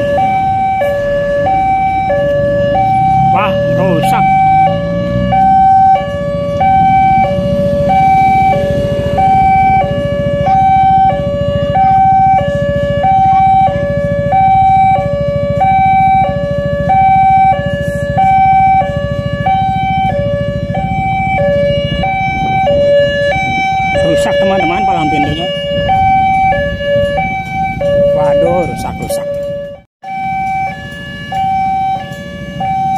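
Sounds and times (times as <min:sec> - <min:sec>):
two-tone level crossing alarm: 0:00.0 - 0:32.9.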